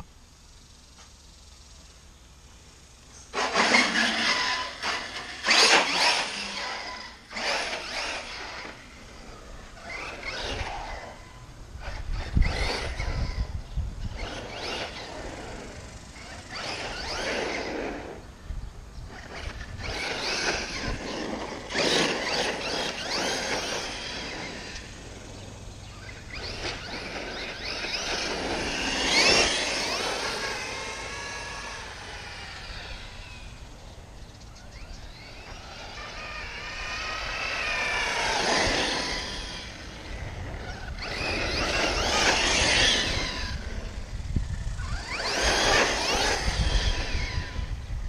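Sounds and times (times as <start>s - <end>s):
rc truck electric motor whining: 3.1s - 18.3s, 19.1s - 48.0s.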